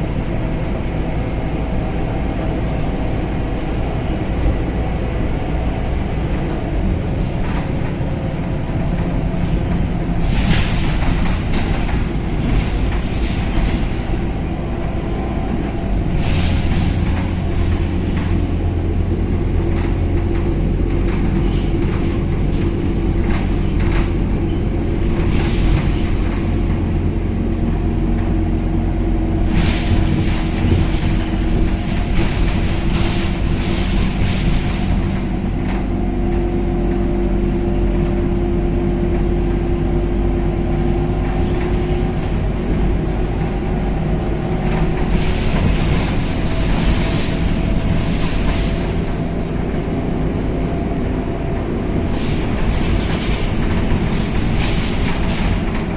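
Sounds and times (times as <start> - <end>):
bus engine drone: 0.0 - 55.9.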